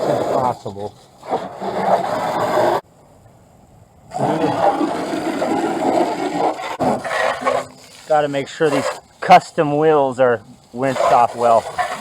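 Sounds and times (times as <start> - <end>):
hose spraying water on car: 0.0 - 2.8, 4.1 - 12.0.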